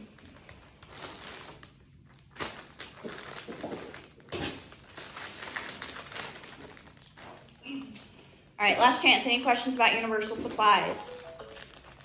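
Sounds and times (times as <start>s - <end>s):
plastic bag crinkling: 0.0s - 8.2s, 10.3s - 12.0s.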